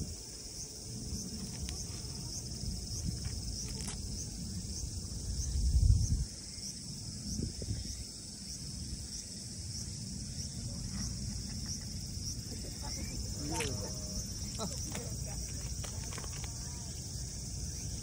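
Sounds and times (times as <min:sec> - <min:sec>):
insects singing: 0:00.0 - 0:18.0.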